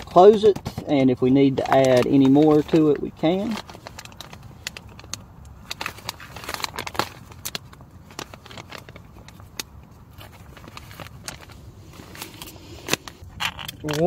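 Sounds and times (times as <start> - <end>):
food pouch crinkling: 1.5 - 14.0.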